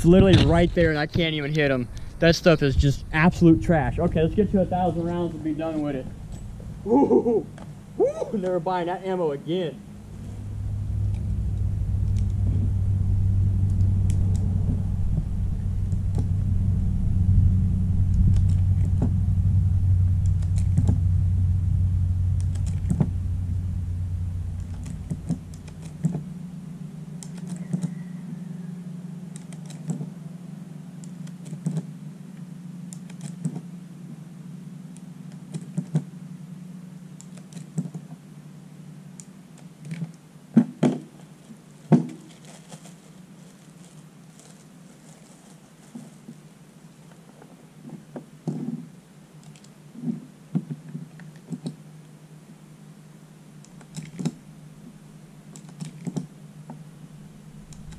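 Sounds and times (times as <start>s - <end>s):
low steady rumble: 0.0s - 57.9s.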